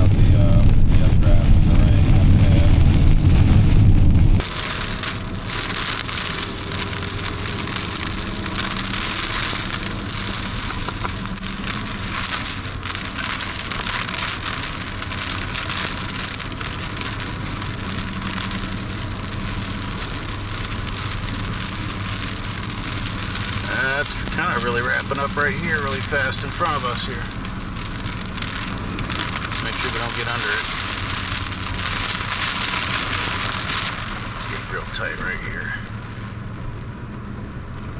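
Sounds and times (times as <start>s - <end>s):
engine humming: 0.0s - 37.9s
heavy rain on a vehicle: 0.0s - 37.9s.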